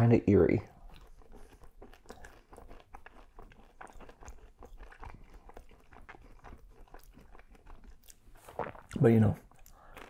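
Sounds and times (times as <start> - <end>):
chewing crisp food: 0.5 - 10.0
wet mouth clicks: 0.7 - 10.0.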